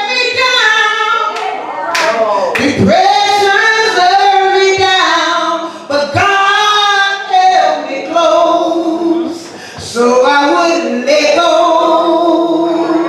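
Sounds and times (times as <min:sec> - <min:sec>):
voices singing without instruments: 0:00.0 - 0:13.0.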